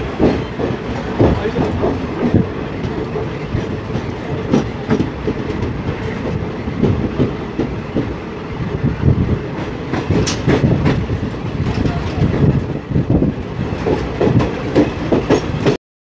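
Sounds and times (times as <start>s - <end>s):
train rumble with wheels clattering: 0.0s - 15.8s.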